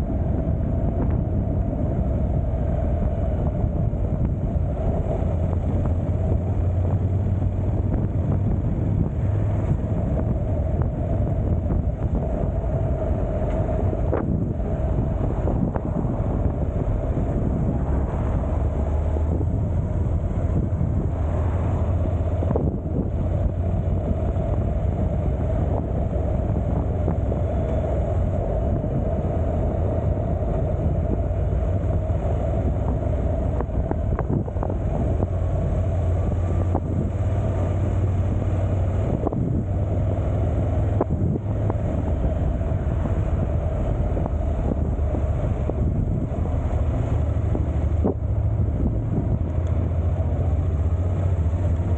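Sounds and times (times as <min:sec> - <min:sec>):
motorcycle engine and road drone: 0:00.0 - 0:51.9
wind rushing over microphone: 0:00.0 - 0:51.9.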